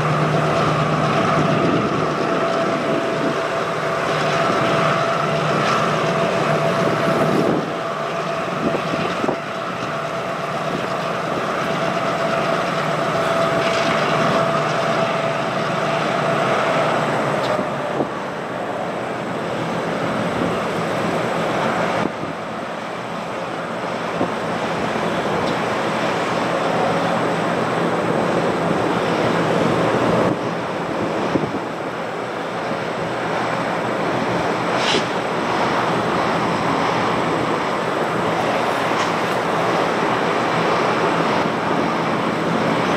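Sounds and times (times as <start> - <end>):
diesel locomotive engines running: 0.0 - 42.9
steady whine: 0.0 - 42.9
train wheels rolling on rails: 0.0 - 42.9.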